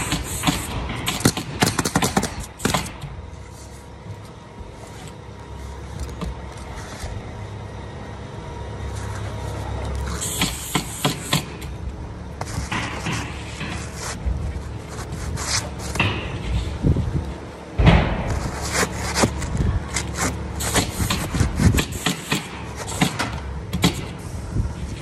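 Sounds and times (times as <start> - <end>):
objects scraping and rubbing: 0.0 - 7.4, 8.7 - 11.7, 12.3 - 17.2, 18.2 - 25.0.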